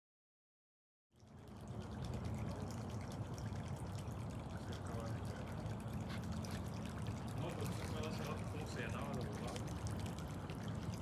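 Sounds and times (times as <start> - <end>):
low steady hum: 1.2 - 11.0
water trickling and dripping: 1.2 - 11.0.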